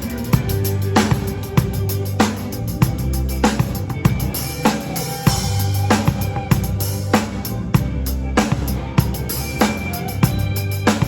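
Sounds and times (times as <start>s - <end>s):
backing music: 0.0s - 11.0s
bass drum: 0.0s - 11.0s
cymbals: 0.0s - 11.0s.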